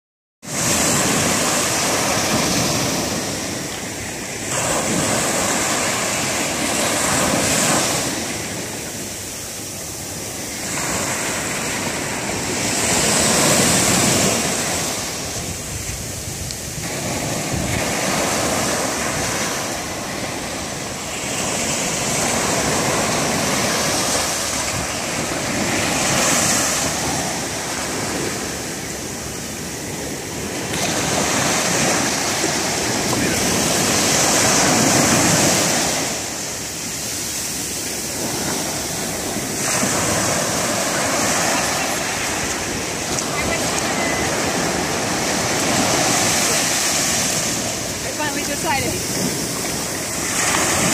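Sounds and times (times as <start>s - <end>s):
ocean surf breaking on beach: 0.4s - 50.9s.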